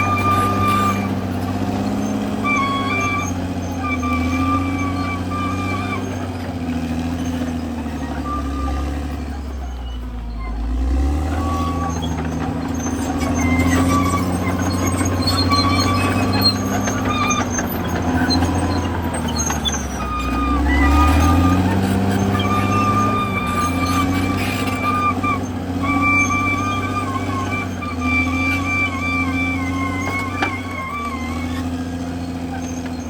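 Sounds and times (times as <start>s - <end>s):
bulldozer diesel engine under load: 0.0s - 33.0s
short high-pitched squeals: 0.0s - 33.0s.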